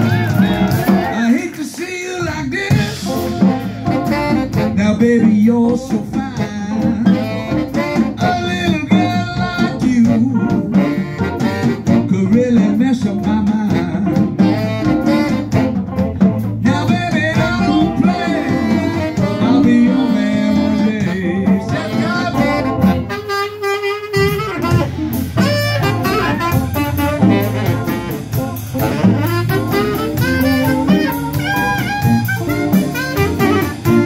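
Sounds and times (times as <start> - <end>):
blues band playing: 0.0 - 34.0
saxophone lead: 0.0 - 34.0.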